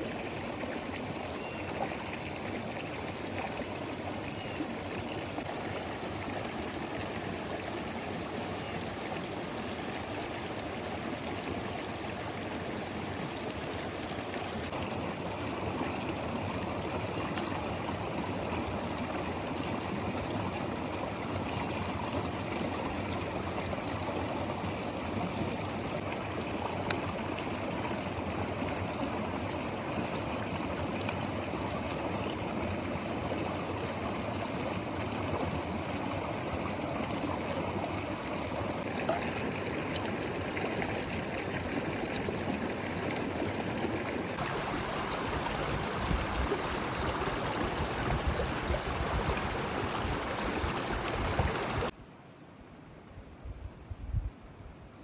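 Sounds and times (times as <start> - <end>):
river flowing: 0.0 - 51.9.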